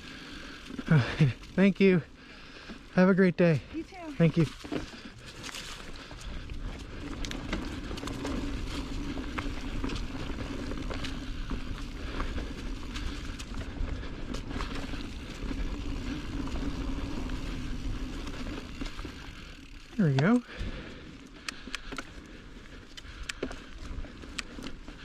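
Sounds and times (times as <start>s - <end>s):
bike tyres humming on dirt trail: 0.0s - 25.0s
bike chain and frame rattling: 3.6s - 25.0s.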